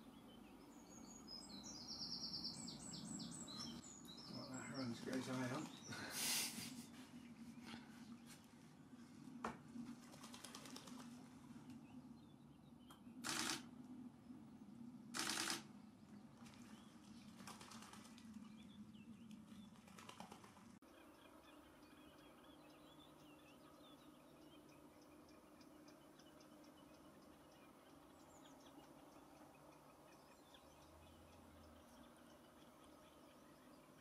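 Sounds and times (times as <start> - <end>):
faint bird calls and song: 0.0 - 34.0.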